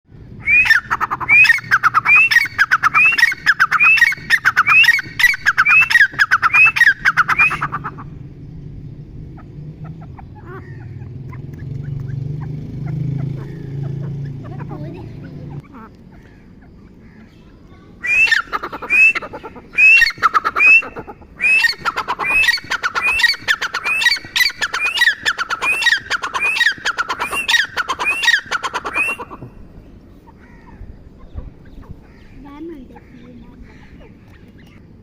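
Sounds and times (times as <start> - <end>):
partridge ringing calls: 0.4 - 8.2, 9.3 - 35.0.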